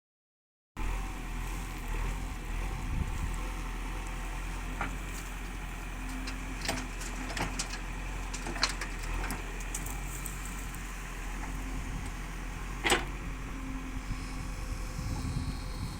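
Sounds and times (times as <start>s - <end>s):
heavy machinery engine running: 0.8s - 15.9s.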